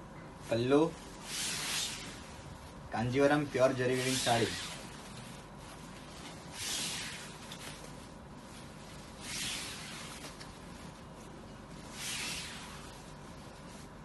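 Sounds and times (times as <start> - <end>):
soft swishes of fabric: 0.0 - 14.0
silk fabric rustling: 0.4 - 14.0.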